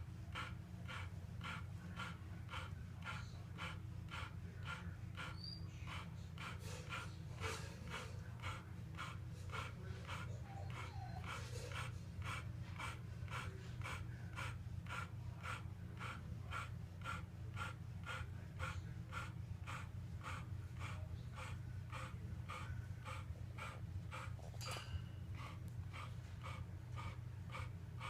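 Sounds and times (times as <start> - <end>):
constant low hum: 0.0 - 28.0
dog panting: 0.0 - 28.0.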